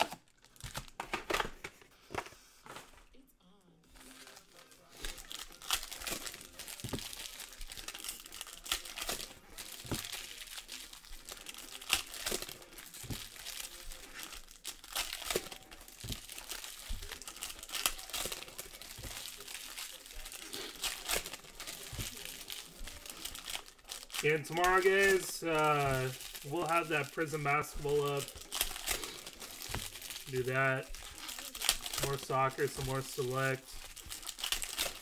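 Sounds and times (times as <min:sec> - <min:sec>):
foil wrappers tearing and crinkling: 0:00.0 - 0:01.6, 0:04.0 - 0:35.0.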